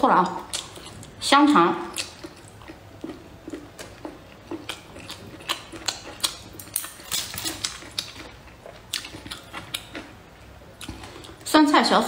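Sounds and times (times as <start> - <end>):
person chewing and smacking: 0.4 - 11.4.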